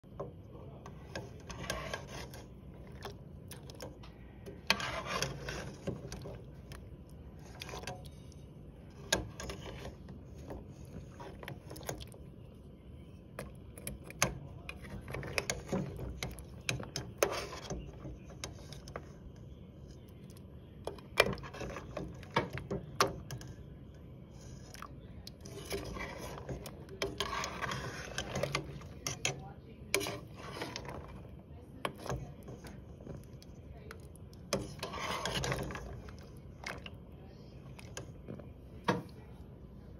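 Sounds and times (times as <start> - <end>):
ladle scraping pot: 0.0 - 39.9.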